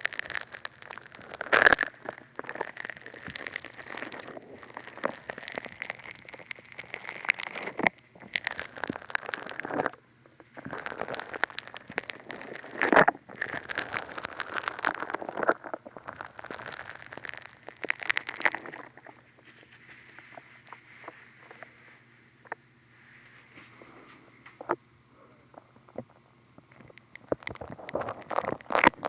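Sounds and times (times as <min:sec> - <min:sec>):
foam crackling against microphone: 0:00.0 - 0:24.1, 0:26.8 - 0:29.0.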